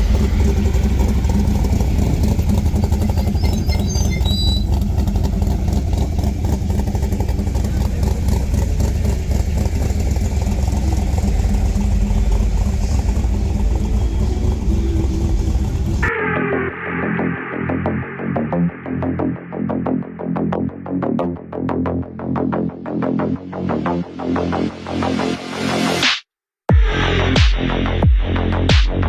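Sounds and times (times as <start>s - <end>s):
car engine rumbling: 0.0s - 25.6s.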